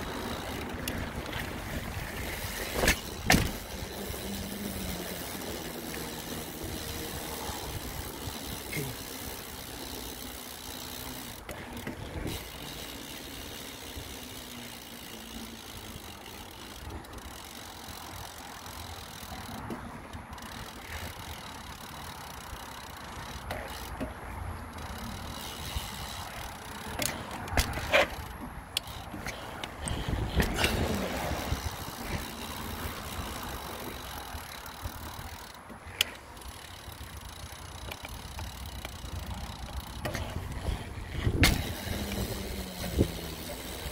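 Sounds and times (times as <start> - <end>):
bike clicks and rattles: 0.0 - 43.9
bike tyres rumbling on rough ground: 0.0 - 43.9.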